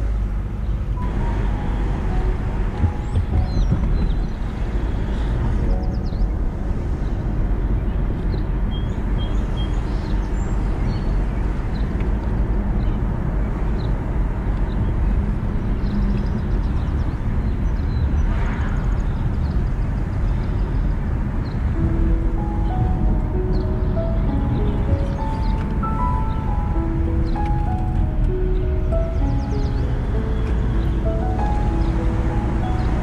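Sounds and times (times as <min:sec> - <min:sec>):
car engine rumble: 0:00.0 - 0:33.0
tyre road noise: 0:00.0 - 0:33.0.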